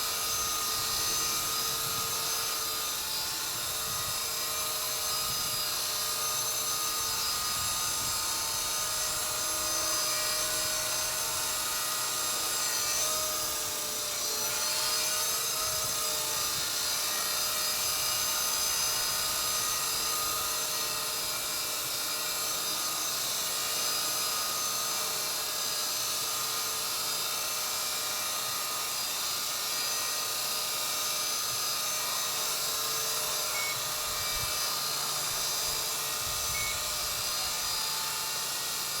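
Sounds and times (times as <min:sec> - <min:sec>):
model helicopter rotor whine: 0:00.0 - 0:39.0.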